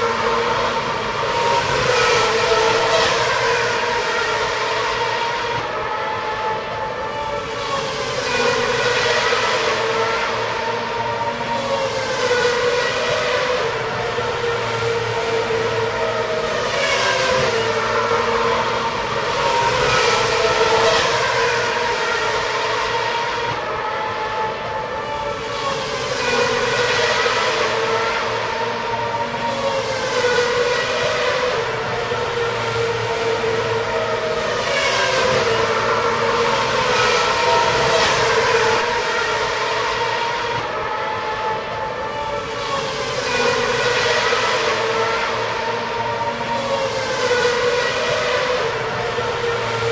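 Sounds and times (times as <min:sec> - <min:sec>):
din of engines: 0:00.0 - 0:49.9
racing car engines passing: 0:00.0 - 0:49.9.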